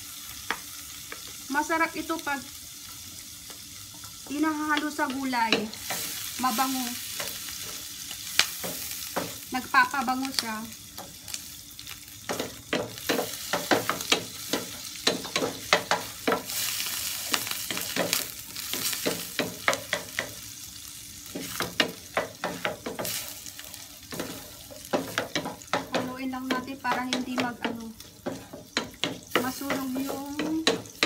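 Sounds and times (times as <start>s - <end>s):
food sizzling in oil: 0.0s - 31.0s.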